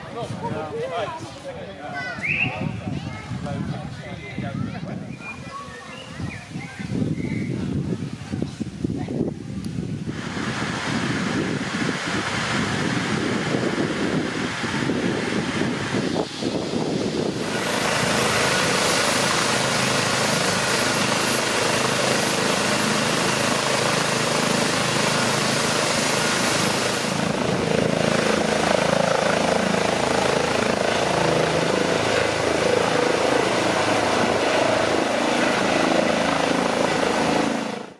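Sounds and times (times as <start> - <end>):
helicopter turbine and rotor: 0.0 - 37.9.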